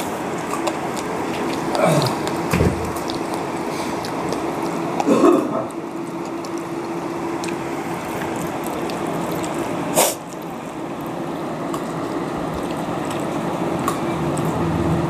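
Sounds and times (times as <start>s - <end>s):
soft eating sounds: 0.0s - 15.0s
steady background hum: 0.0s - 15.0s.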